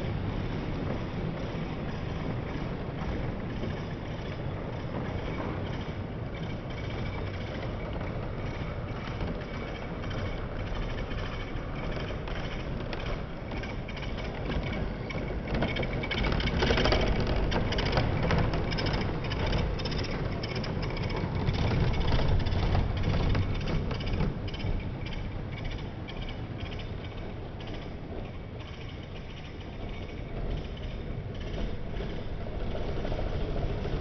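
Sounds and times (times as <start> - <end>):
model train rumbling on track: 0.0 - 34.0
rapid clicking clatter: 0.8 - 34.0.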